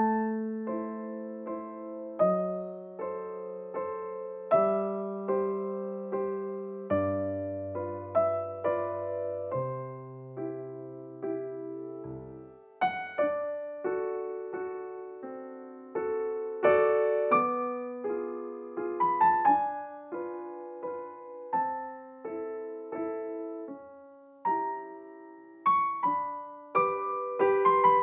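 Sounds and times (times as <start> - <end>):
soft piano music: 0.0 - 28.0.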